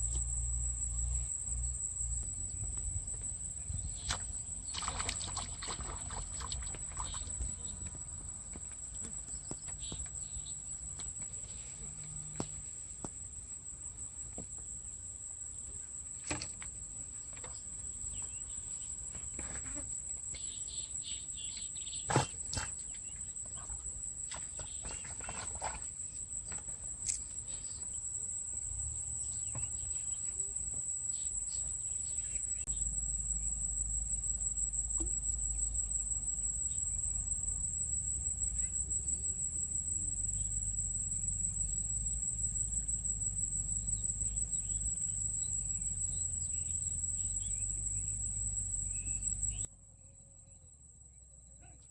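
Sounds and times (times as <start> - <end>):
insects trilling: 0.0 - 51.9.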